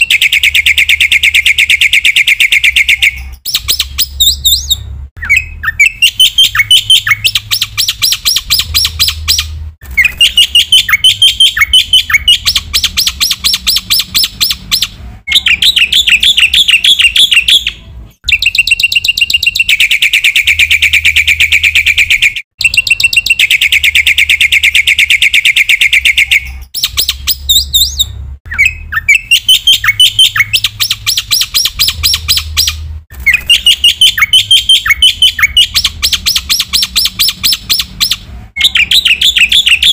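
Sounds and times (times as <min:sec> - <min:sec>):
bird chirping: 0:00.0 - 0:39.9
buzzy rattling bird trill: 0:00.0 - 0:39.9.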